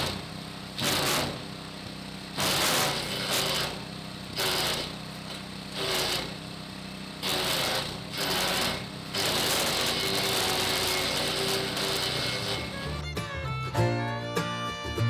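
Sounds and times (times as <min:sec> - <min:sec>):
shredder grinding branches: 0:00.0 - 0:13.2
branch shredder humming: 0:00.0 - 0:13.6.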